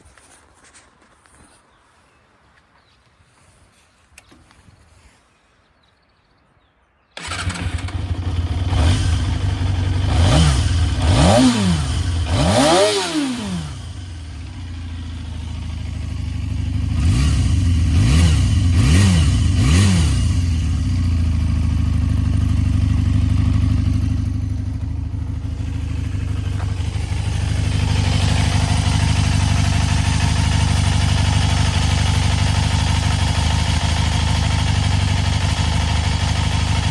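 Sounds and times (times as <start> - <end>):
motorcycle engine revving: 7.2 - 36.9.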